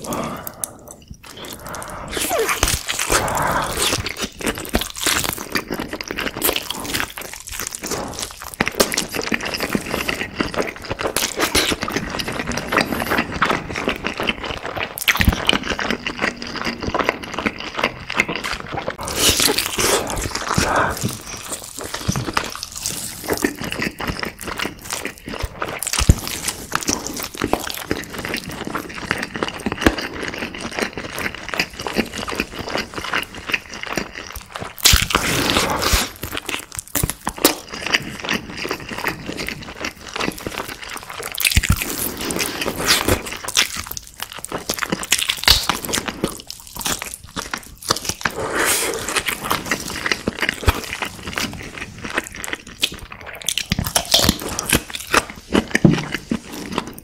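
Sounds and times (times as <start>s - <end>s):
biting and chewing meat: 0.0s - 57.0s.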